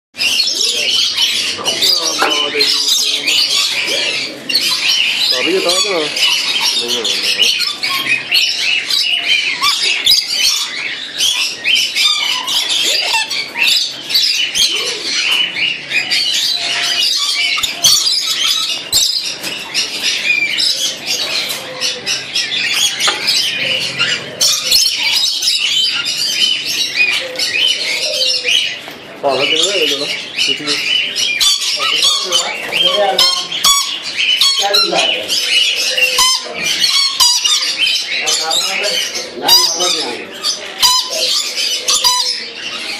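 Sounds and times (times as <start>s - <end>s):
parrots screeching and chattering: 0.2s - 42.9s.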